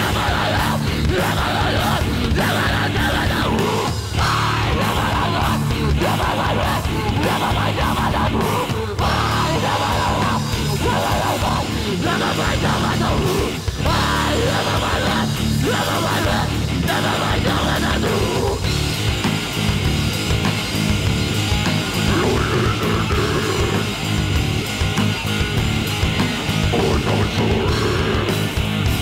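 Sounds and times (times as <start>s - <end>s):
harsh screamed vocals: 0.0s - 29.0s
heavy distorted guitar music: 0.0s - 29.0s.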